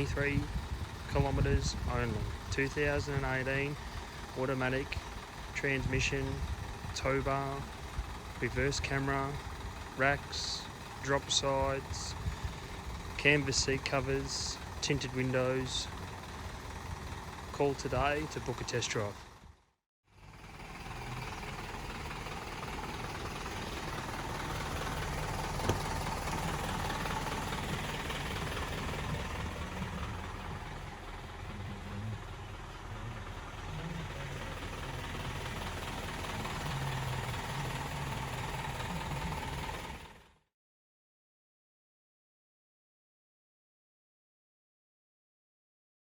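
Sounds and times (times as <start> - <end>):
diesel truck engine running: 0.0 - 40.5.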